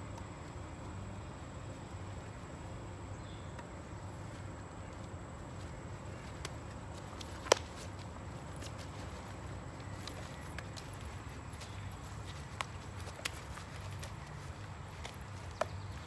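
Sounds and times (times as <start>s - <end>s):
insects humming: 0.0s - 16.0s.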